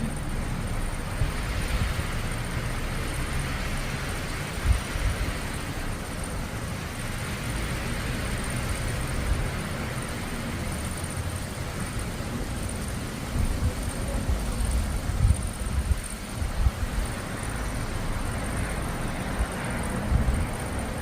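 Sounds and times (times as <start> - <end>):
hiss: 0.0 - 21.0.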